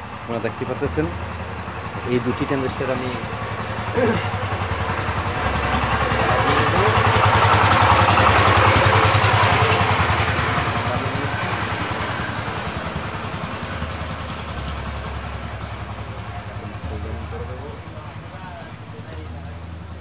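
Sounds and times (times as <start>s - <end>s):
vehicle engine passing: 0.0s - 20.0s.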